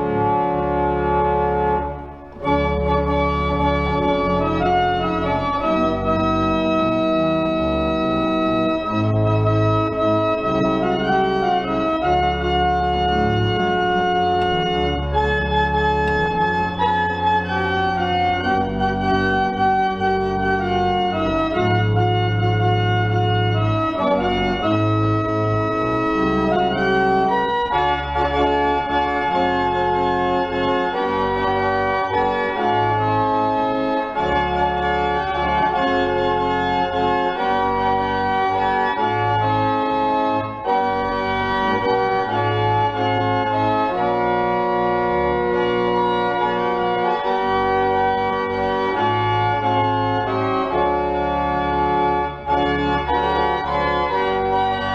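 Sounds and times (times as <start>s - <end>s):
low organ pedal bass notes: 0.0s - 54.9s
pipe organ chords: 0.0s - 54.9s.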